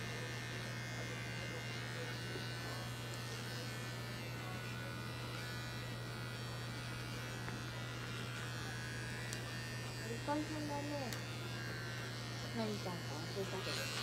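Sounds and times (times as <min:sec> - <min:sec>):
electric clipper buzzing: 0:00.0 - 0:14.0.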